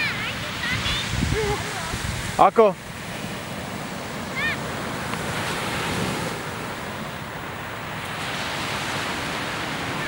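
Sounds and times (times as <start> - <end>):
ocean surf washing onto beach: 0.0 - 10.0
wind buffeting microphone: 0.0 - 10.0.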